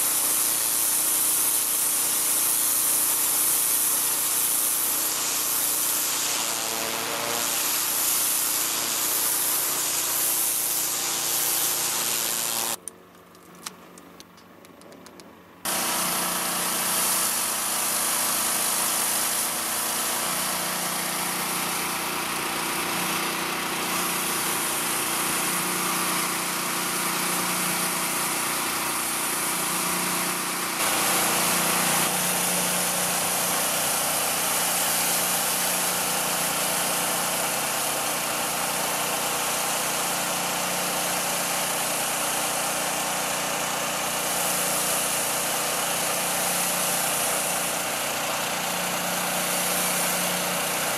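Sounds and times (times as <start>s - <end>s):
high-pressure water spraying: 0.0s - 12.8s, 15.7s - 50.9s
pressure washer engine running: 0.0s - 12.8s, 15.7s - 50.9s.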